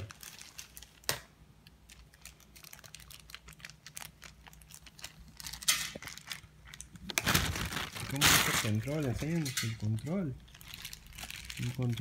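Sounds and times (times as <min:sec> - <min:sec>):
plastic bag crinkling: 0:00.0 - 0:01.1, 0:01.8 - 0:12.0
plastic bag tearing rustle: 0:00.0 - 0:01.1, 0:02.1 - 0:12.0.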